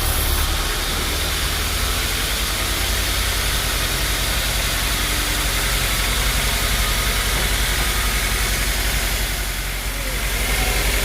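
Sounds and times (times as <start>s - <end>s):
sawmill machinery humming: 0.0s - 11.0s.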